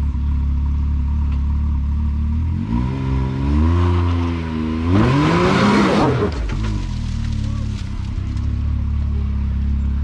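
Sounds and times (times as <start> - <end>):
utility vehicle engine revving: 1.2 - 9.8.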